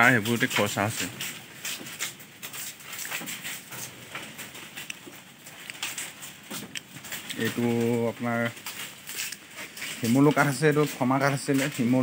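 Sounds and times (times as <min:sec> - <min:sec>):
hooves tapping on wooden slats: 0:00.0 - 0:12.0.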